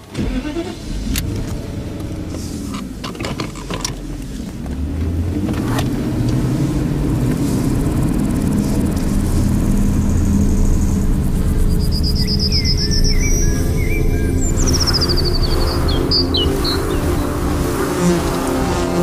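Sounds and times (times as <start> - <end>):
car engine starting and running: 0.0 - 19.0.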